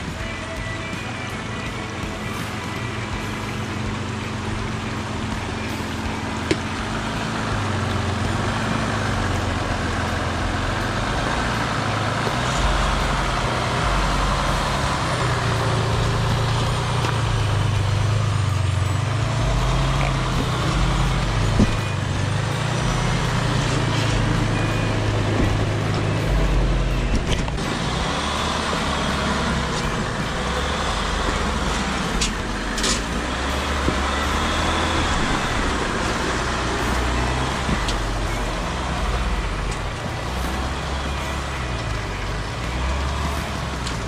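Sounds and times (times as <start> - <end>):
diesel engine at low revs: 0.0 - 44.0.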